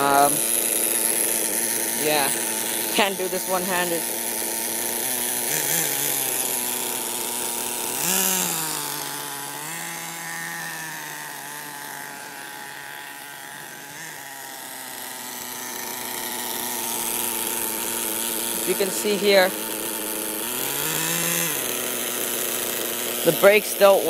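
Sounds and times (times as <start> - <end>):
small model engine buzzing: 0.0 - 24.0.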